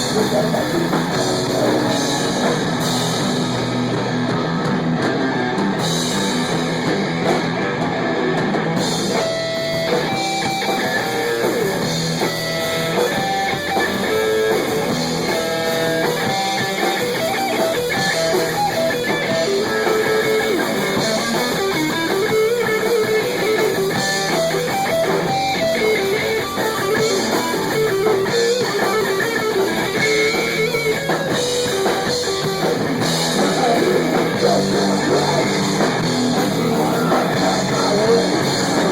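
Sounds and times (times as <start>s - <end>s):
drums: 0.0s - 38.9s
electric guitar playing: 0.0s - 38.9s.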